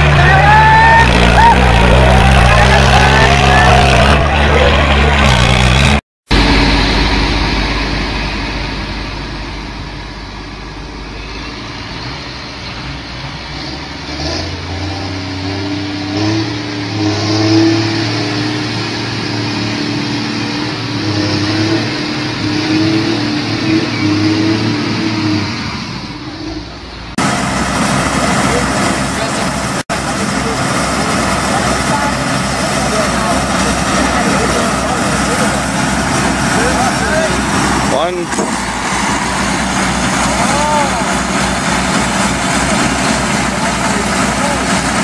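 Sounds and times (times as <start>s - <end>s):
higher engine hum: 0.0s - 45.0s
tractor diesel engines droning: 0.0s - 45.0s.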